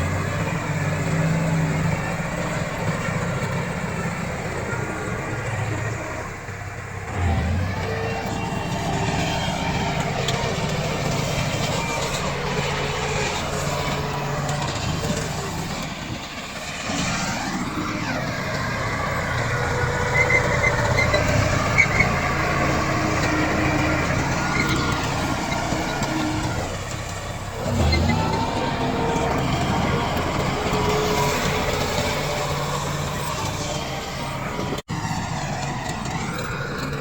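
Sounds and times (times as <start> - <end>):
bulldozer diesel engine under load: 0.0 - 37.0.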